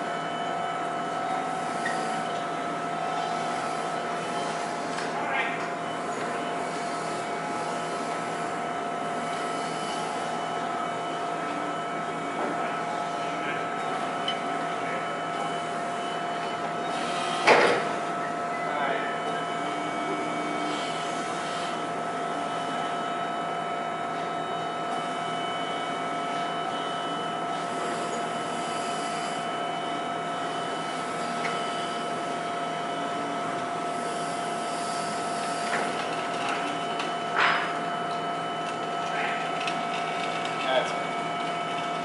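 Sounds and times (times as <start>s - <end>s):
constant whining tones: 0.0s - 42.0s
steady mechanical drone: 0.0s - 42.0s.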